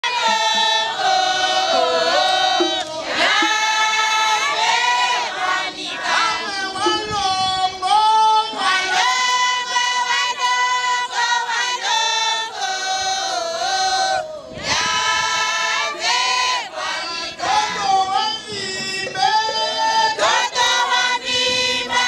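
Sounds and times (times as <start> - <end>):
women's choir singing: 0.0 - 22.0.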